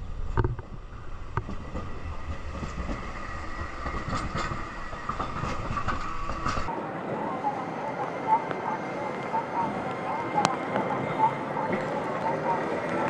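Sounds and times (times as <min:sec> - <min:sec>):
streetcar wheels rumbling on rails: 0:00.0 - 0:13.0.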